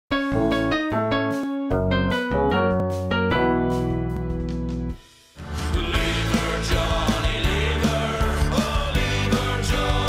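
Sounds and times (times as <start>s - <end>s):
keyboard theme music: 0.1s - 10.0s.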